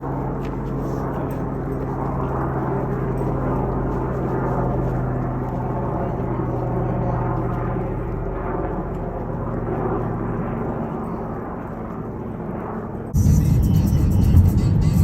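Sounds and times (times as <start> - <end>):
aircraft engine running: 0.0 - 15.0.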